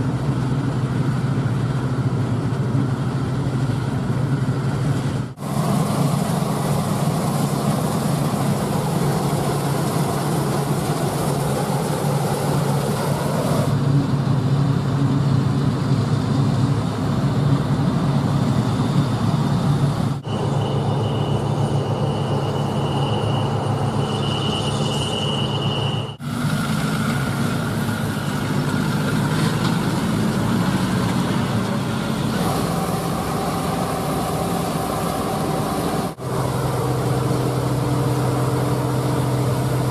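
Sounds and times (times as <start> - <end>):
harvest machinery engine drone: 0.0 - 39.9
steady high whine: 0.0 - 39.9.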